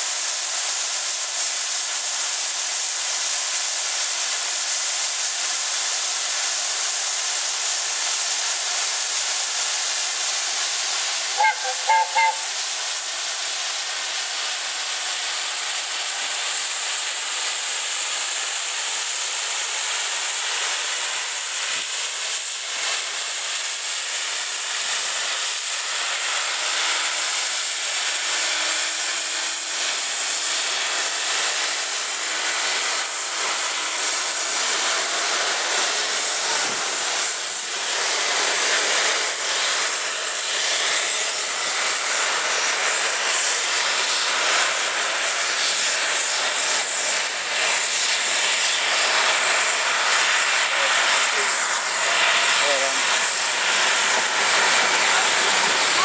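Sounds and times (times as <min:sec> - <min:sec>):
steam locomotive blowing off steam: 0:00.0 - 0:56.0.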